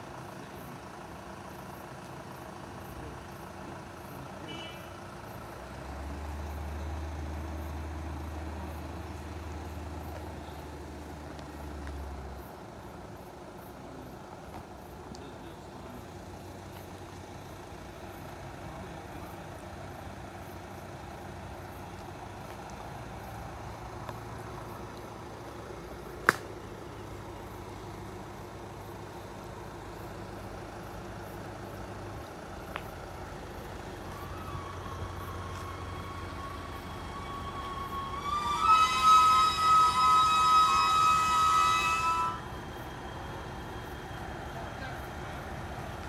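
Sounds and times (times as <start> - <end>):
low steady engine hum: 0.0 - 46.0.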